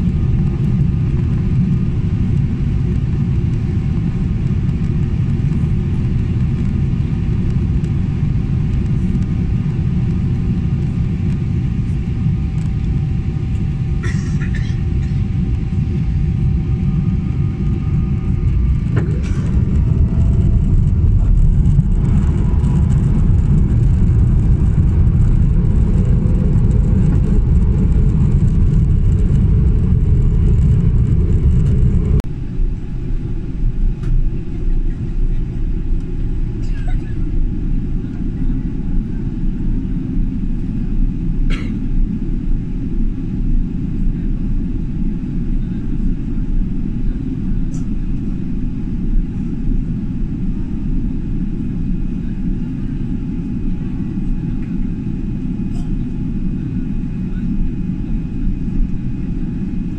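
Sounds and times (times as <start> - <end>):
airliner cabin rumble: 0.0 - 59.9
uneven rumble: 0.0 - 59.9.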